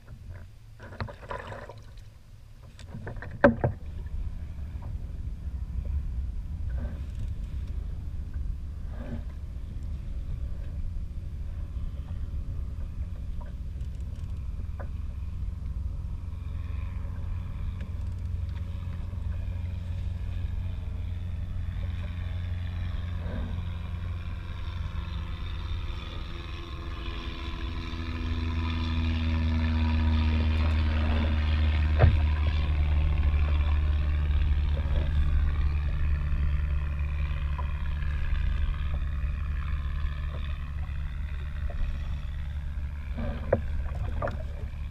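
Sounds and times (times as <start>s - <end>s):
water lapping around kayak: 0.0s - 44.9s
wind rumbling on microphone: 0.0s - 44.9s
pitched drone: 3.5s - 44.9s.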